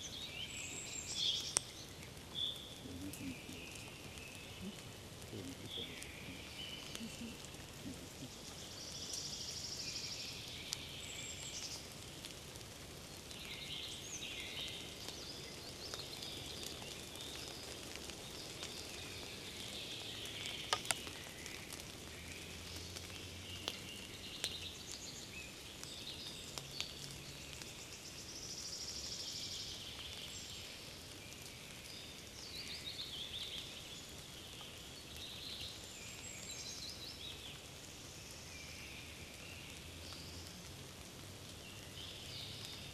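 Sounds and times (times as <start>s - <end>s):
small birds singing: 0.0s - 42.9s
steady background hiss: 0.0s - 42.9s.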